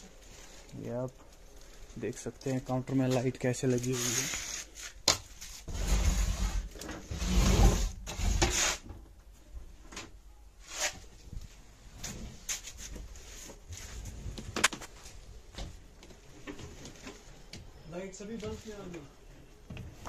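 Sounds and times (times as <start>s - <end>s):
rustling: 0.0s - 8.9s, 10.6s - 20.0s.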